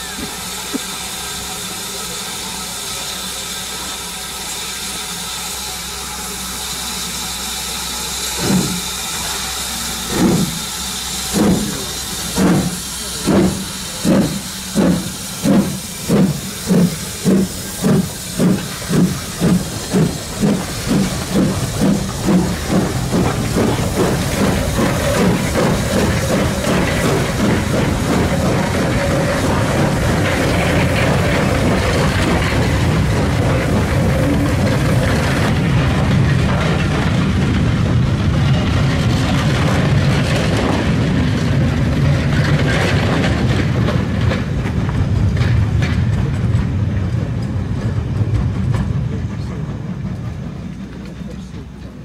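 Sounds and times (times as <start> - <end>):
steam hissing: 0.0 - 45.3
steam locomotive exhaust beats: 0.0 - 52.0
train wheels rolling: 0.0 - 52.0.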